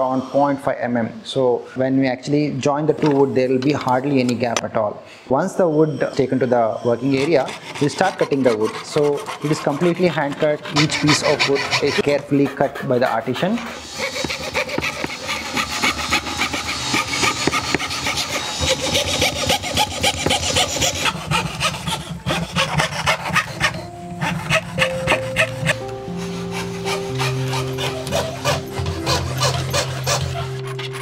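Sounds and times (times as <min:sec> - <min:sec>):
background music held notes: 0:05.3 - 0:31.0
fret saw rasping through wood: 0:05.8 - 0:31.0.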